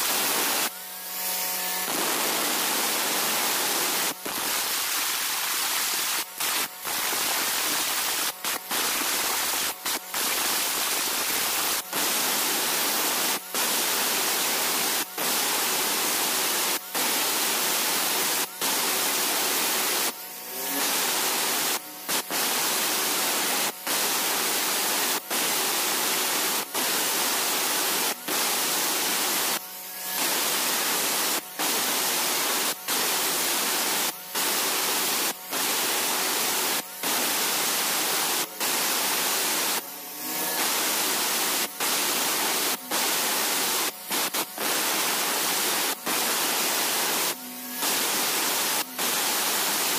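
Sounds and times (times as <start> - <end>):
angle grinder cutting stone: 0.0 - 49.9.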